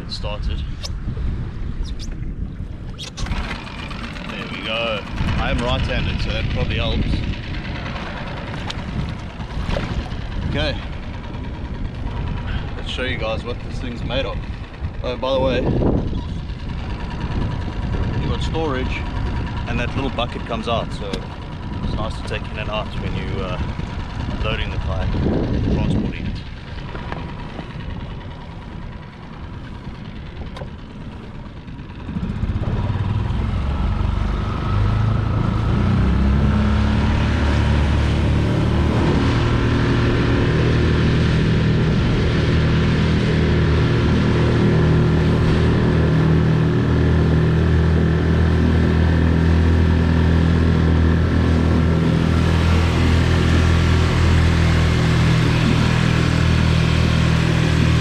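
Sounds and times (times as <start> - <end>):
outboard motor revving: 2.2 - 58.0.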